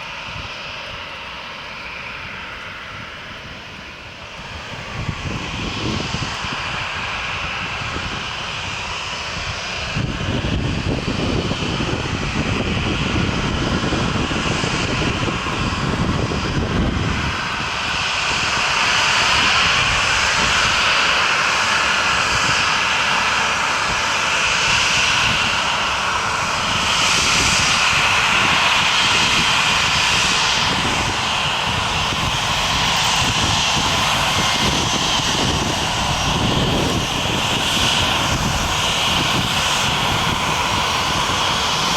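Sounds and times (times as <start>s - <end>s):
airliner engines running: 0.0s - 41.9s.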